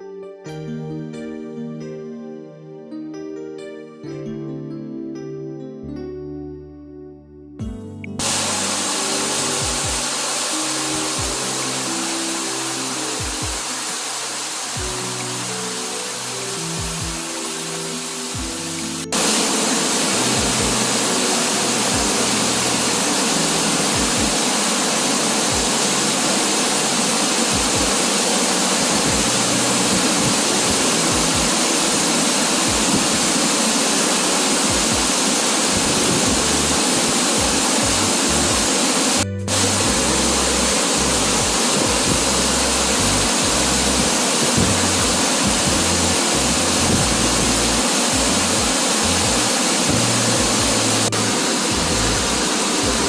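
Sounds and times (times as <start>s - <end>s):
waterfall rushing: 8.2s - 53.0s.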